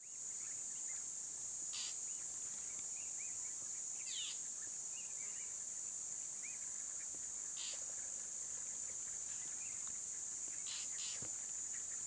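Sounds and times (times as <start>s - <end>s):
rustle: 0.0s - 12.0s.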